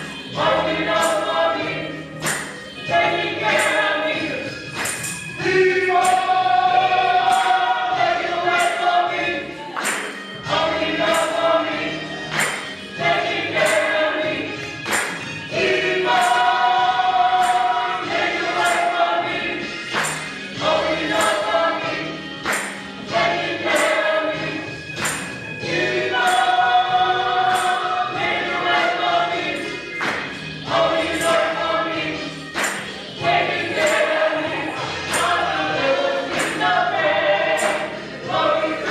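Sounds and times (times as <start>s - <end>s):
gospel choir singing: 0.0s - 38.9s.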